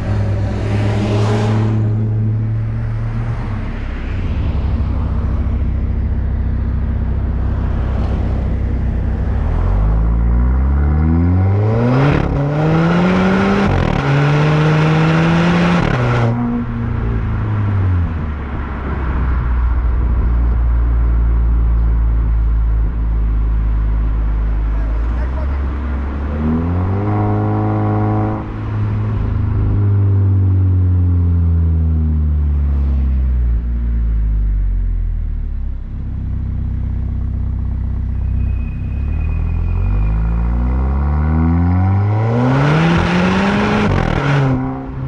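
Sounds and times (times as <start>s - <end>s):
car engine revving: 0.0s - 45.0s
car exhaust droning: 0.0s - 45.0s.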